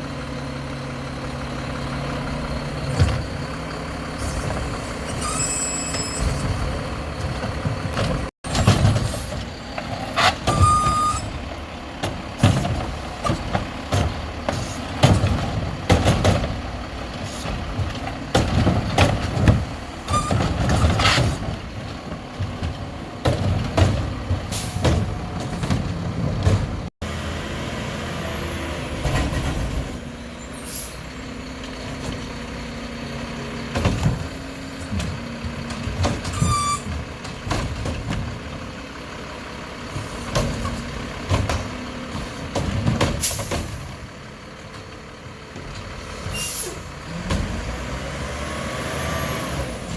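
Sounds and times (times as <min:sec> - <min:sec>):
diesel engine running: 0:00.0 - 0:49.9
clanks and bangs of carts: 0:02.2 - 0:26.9, 0:28.9 - 0:48.3.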